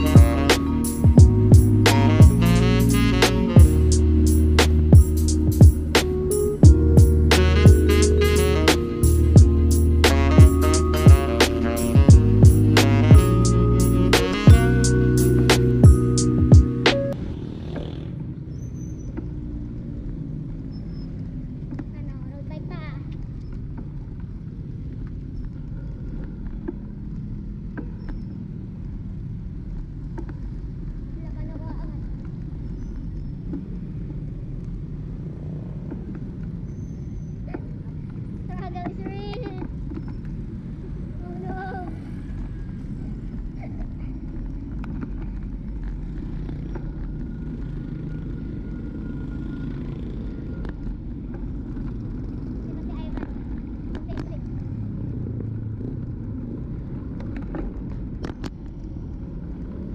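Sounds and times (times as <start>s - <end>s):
tyres rumbling on road: 0.0s - 59.9s.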